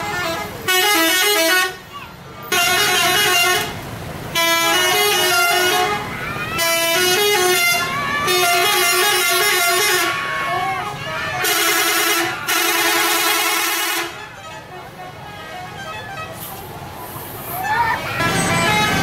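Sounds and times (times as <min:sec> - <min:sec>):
musical air horns: 0:00.0 - 0:01.8, 0:02.5 - 0:16.6, 0:18.0 - 0:19.0.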